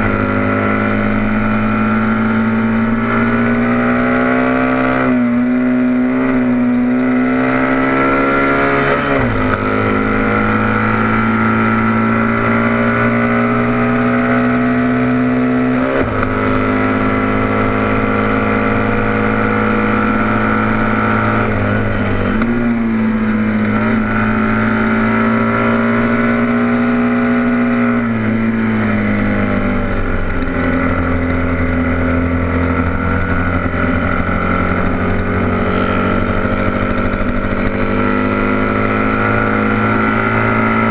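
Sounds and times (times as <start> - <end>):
motorcycle engine revving high: 0.0 - 40.9.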